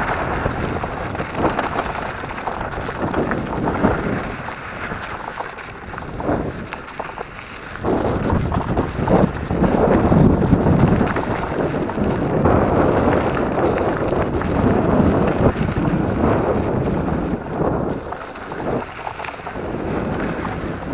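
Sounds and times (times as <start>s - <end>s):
tyres crunching over gravel: 0.0s - 20.9s
wind buffeting microphone: 0.0s - 20.9s.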